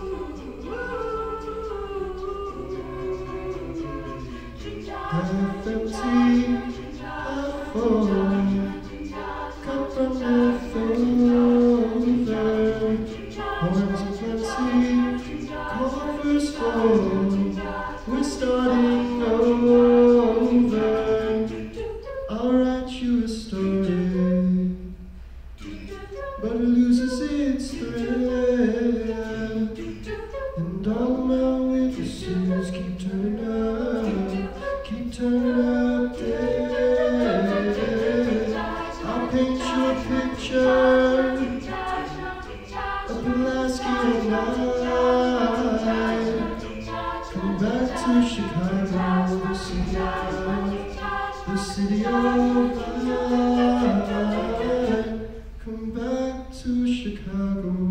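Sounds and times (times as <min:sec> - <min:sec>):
a cappella group singing: 0:00.0 - 0:57.9.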